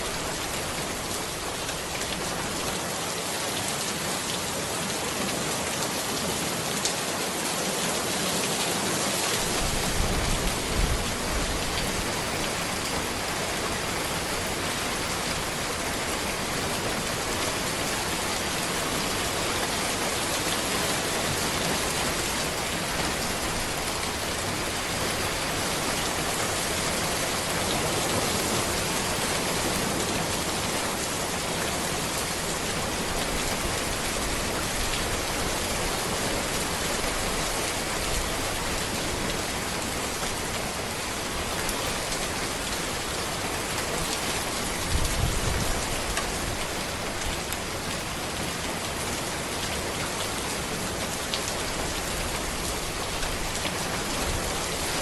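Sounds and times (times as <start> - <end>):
rain on road: 0.0 - 55.0.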